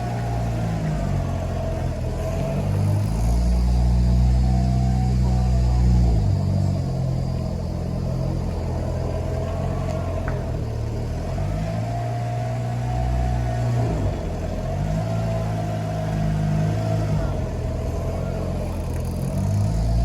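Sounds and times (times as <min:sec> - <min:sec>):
car engine at low speed: 0:00.0 - 0:20.0.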